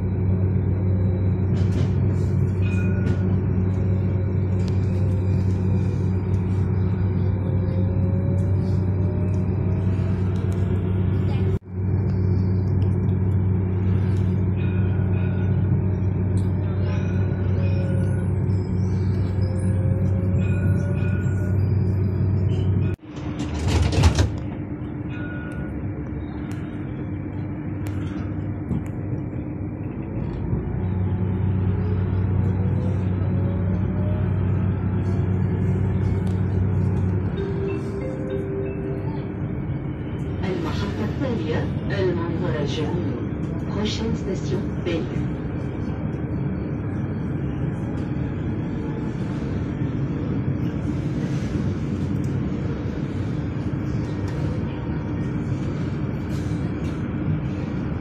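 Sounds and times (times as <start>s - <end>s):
tram low hum: 0.0s - 58.0s.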